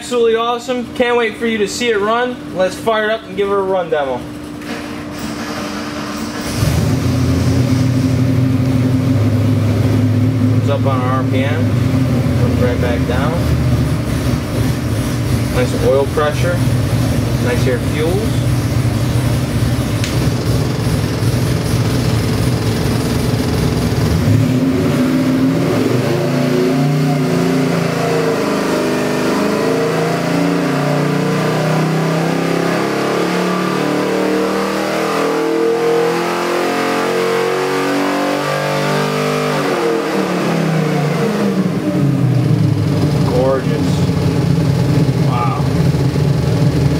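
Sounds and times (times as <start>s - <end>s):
engine revving on dynamometer: 4.7s - 46.9s.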